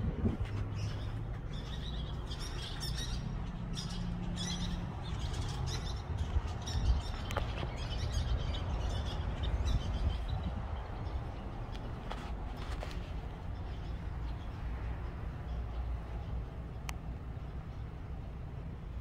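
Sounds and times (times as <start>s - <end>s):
steady low rumble: 0.0s - 19.0s
small birds chirping: 0.4s - 19.0s.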